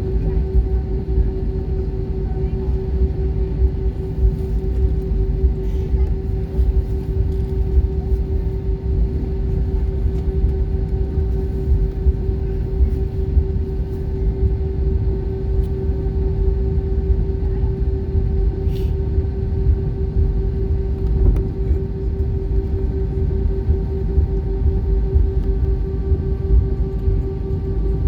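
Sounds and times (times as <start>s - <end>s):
airplane cabin rumble: 0.0s - 28.0s.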